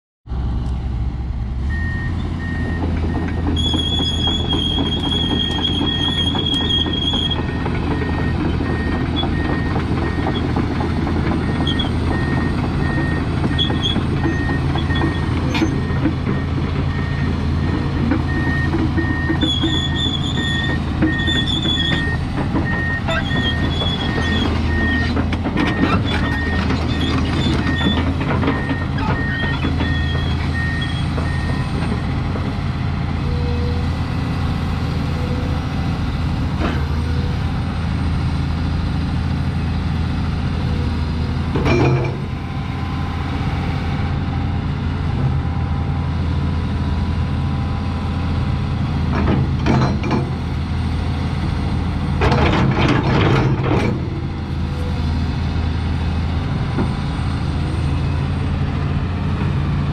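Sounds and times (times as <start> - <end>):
excavator diesel engine under load: 0.3 - 59.9.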